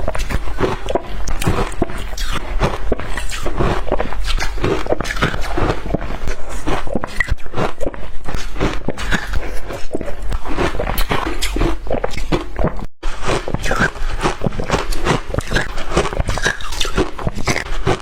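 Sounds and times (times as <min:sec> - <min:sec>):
person crunching shaved ice: 0:00.0 - 0:18.0.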